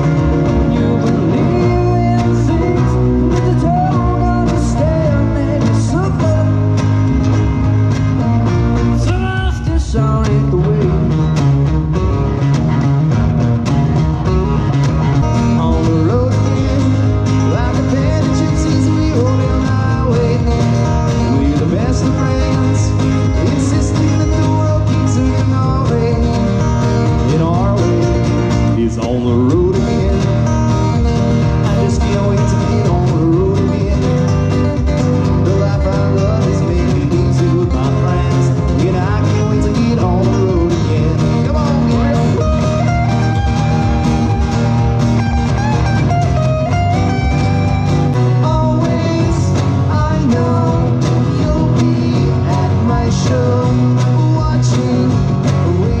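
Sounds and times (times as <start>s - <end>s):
second guitar playing: 0.0s - 56.0s
strummed acoustic guitar: 0.0s - 56.0s.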